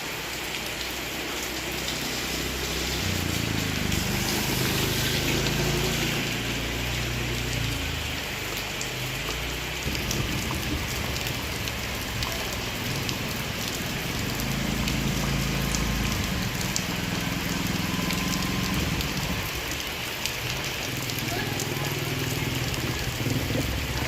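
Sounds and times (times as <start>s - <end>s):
heavy rain: 0.0s - 24.0s
raindrops pattering: 0.0s - 24.0s.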